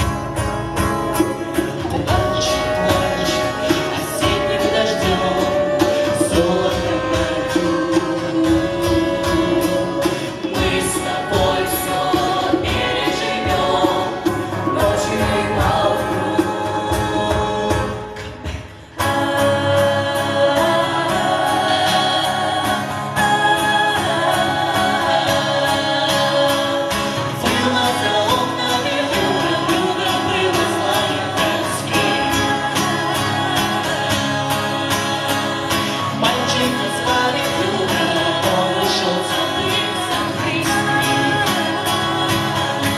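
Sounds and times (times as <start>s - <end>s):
strummed acoustic guitar: 0.0s - 42.9s
vocal ensemble singing in harmony: 0.0s - 42.9s.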